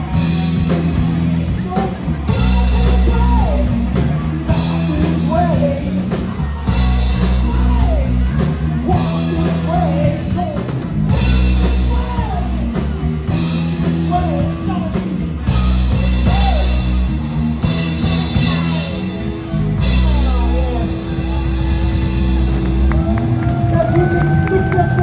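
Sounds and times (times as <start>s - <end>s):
rock music with singing: 0.0s - 25.0s.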